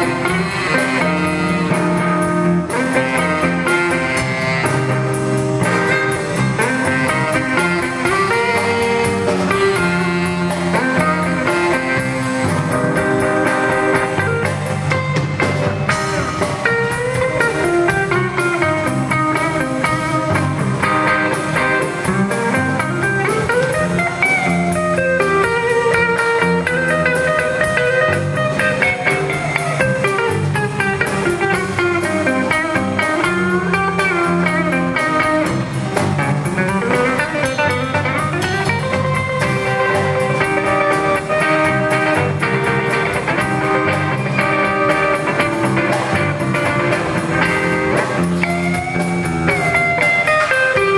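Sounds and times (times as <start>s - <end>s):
bass: 0.0s - 50.9s
drums: 0.0s - 50.9s
electric guitar solo: 0.0s - 50.9s.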